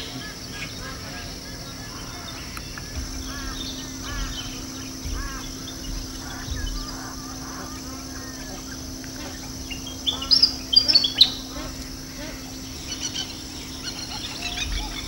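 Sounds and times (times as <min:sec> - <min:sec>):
steady low hum: 0:00.0 - 0:15.0
waterbirds honking and quacking: 0:00.0 - 0:15.0.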